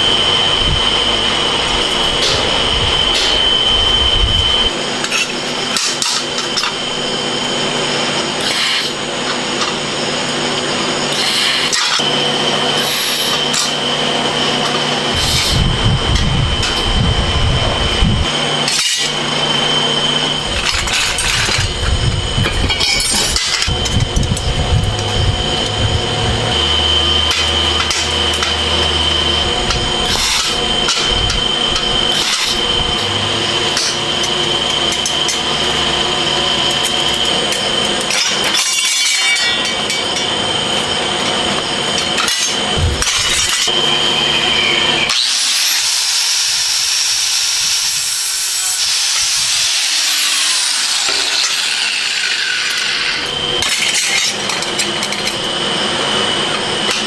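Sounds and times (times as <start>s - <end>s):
machinery whine: 0.0s - 57.0s.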